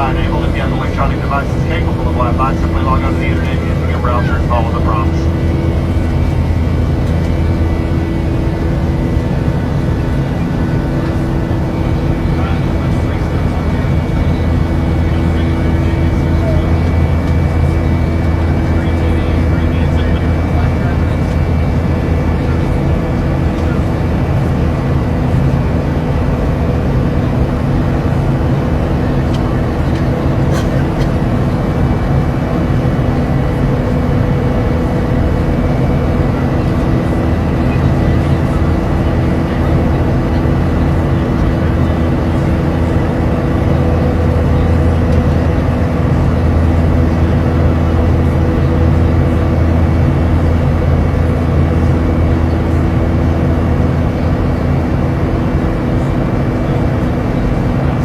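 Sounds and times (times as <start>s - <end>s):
airliner engine drone: 0.0s - 58.0s.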